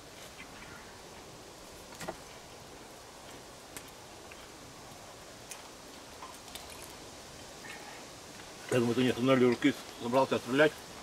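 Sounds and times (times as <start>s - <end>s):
quiet outdoor background: 0.0s - 11.0s.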